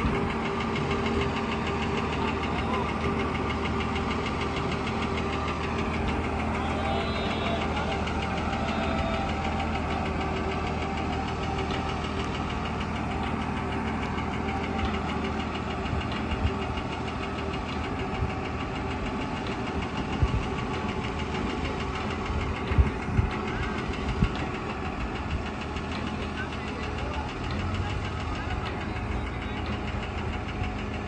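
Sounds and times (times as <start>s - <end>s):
crane diesel engine running: 0.0s - 31.0s.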